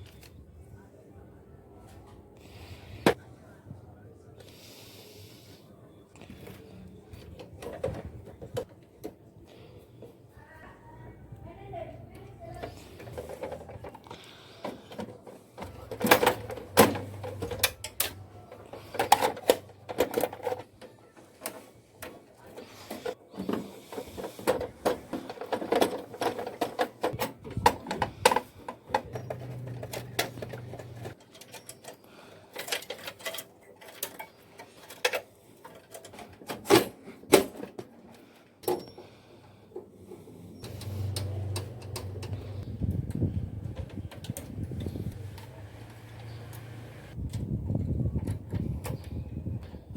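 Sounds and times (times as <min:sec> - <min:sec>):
hands clicking and rattling parts: 0:06.2 - 0:09.3, 0:12.1 - 0:49.8.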